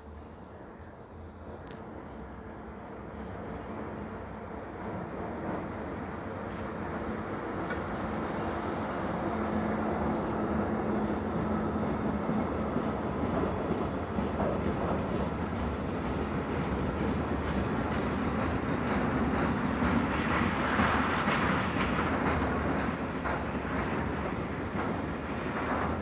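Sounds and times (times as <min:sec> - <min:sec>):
freight train rolling past: 0:02.2 - 0:26.0
train wheels clicking and clattering: 0:04.9 - 0:26.0.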